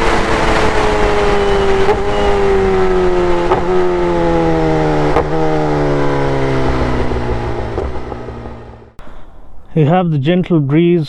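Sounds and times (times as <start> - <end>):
motorcycle engine revs dropping: 0.0 - 9.0.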